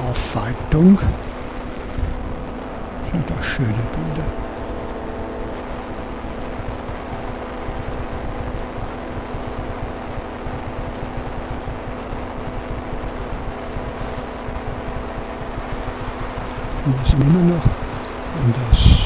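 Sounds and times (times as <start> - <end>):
engine and propeller drone: 0.0 - 19.0
wind rushing over microphone: 0.0 - 19.0.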